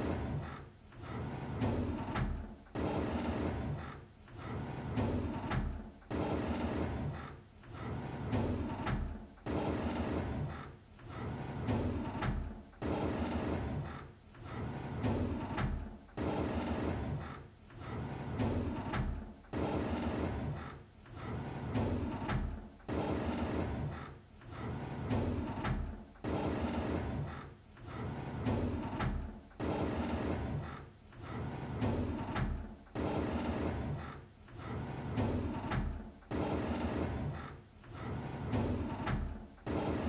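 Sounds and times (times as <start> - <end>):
drawer sliding open: 0.0 - 40.0.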